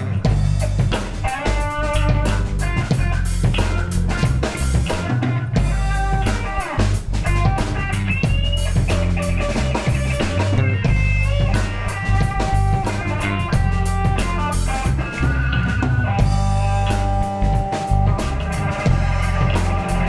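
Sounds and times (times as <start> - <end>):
bass guitar: 0.0 - 20.0
drum kit: 0.0 - 20.0
electric guitar bending notes: 0.0 - 20.0.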